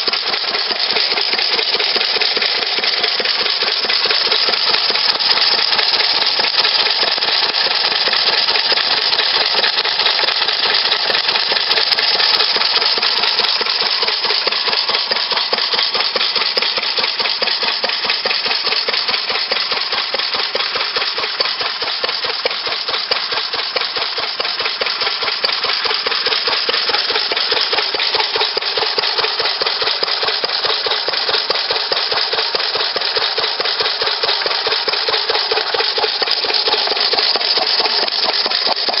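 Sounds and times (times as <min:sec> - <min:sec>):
stationary gas engine clatter: 0:00.0 - 0:39.0.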